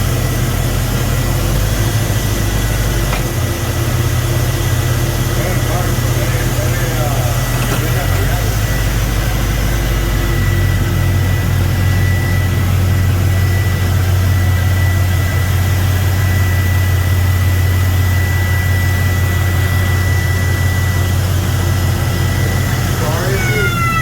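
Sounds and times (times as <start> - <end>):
car engine idling: 0.0 - 24.0
thin steady whine: 0.0 - 24.0.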